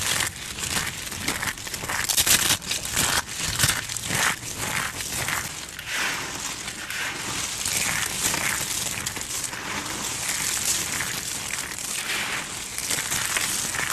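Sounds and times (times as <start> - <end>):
brittle crunching and crackling: 0.0 - 13.9.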